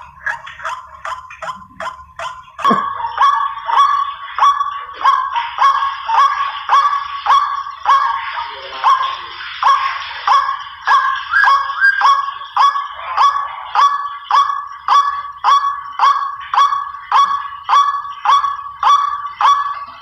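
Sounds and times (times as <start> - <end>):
bird calling harsh notes: 0.0 - 19.9.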